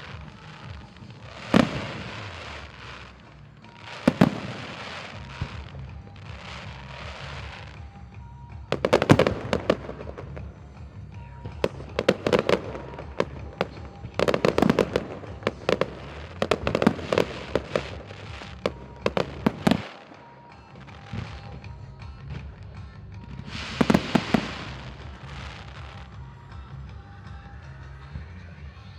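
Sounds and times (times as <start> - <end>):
fireworks crackling and banging: 0.0 - 28.1.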